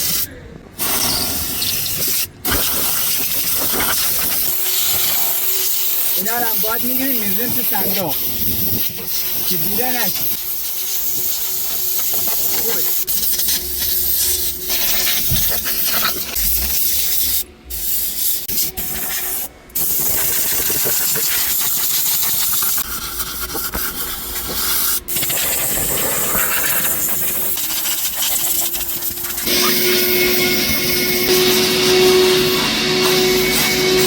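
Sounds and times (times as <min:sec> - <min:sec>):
high-pressure spray gun hissing: 0:00.0 - 0:34.0.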